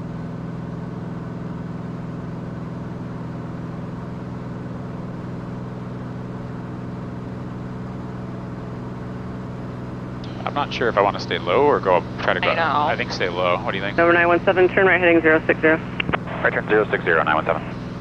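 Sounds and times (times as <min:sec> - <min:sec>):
aircraft engine droning: 0:01.2 - 0:18.0.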